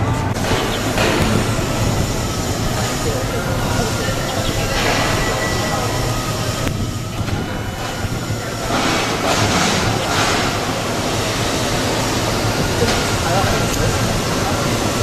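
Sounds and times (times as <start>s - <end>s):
dense machinery rumble: 0.0s - 15.0s.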